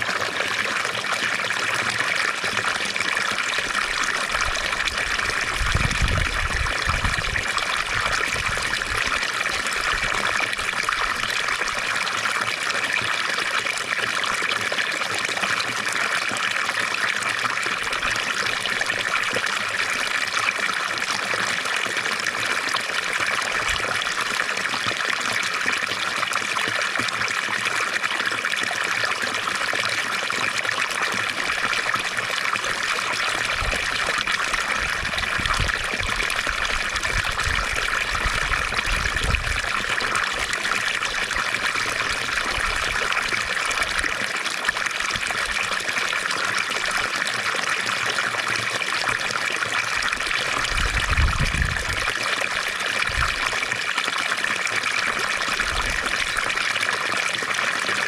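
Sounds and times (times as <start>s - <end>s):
fountain water trickling and splashing: 0.0s - 58.0s.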